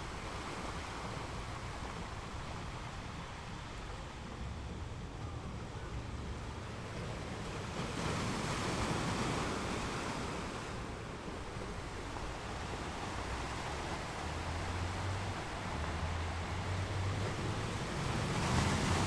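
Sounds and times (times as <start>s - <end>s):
ocean waves breaking on shore: 0.0s - 19.0s.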